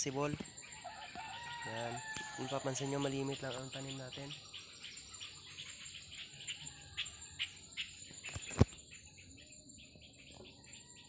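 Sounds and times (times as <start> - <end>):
insects trilling and chirping: 0.0 - 11.0.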